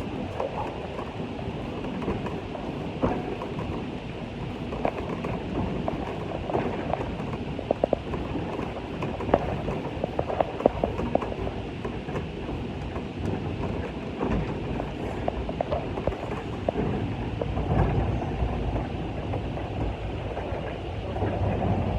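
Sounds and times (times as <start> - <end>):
train rumble: 0.0 - 21.9.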